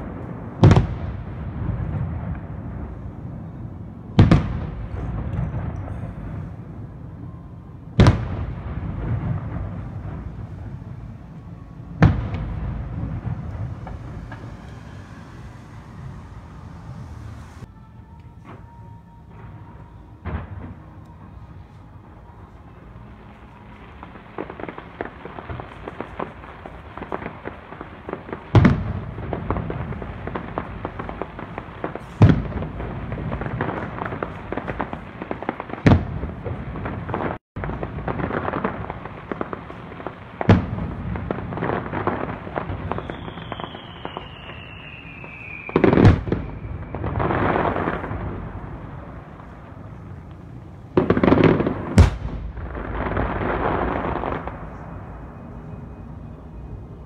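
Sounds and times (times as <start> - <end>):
distant fireworks bangs: 0.0 - 57.0
fireworks crackling: 0.0 - 57.0
falling firework whistle: 0.6 - 37.4, 38.0 - 57.0.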